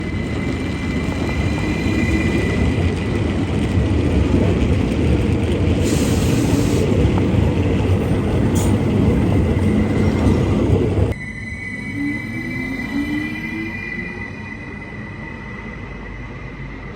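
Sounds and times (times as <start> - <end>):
train rumbling on rails: 0.0 - 16.9.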